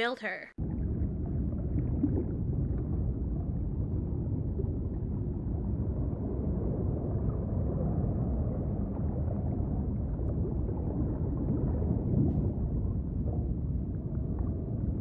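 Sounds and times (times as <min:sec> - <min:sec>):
muffled underwater rumble: 0:00.6 - 0:15.0.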